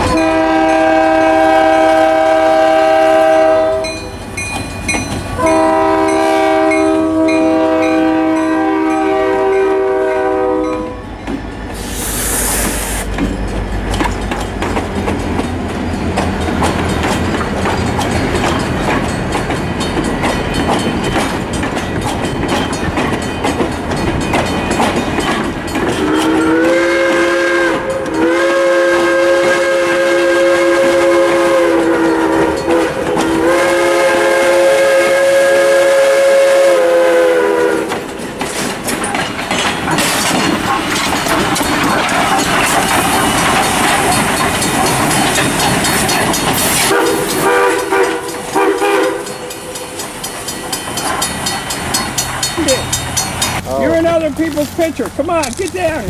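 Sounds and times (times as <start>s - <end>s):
train multi-note chime: 0.0s - 29.4s, 30.4s - 35.4s, 37.6s - 54.6s
train wheels clacking: 0.0s - 56.0s.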